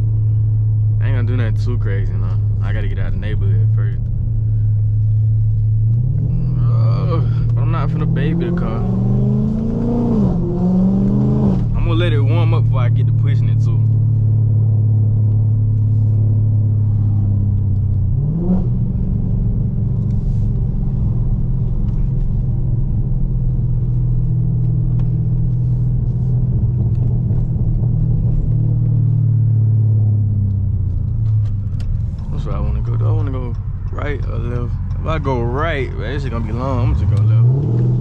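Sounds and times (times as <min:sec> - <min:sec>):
car engine low rumble: 0:00.0 - 0:38.0.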